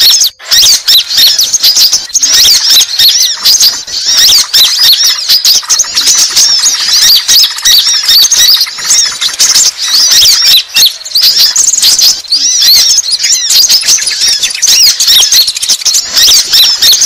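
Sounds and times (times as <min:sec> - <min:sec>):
birds chirping and trilling: 0:00.0 - 0:17.0.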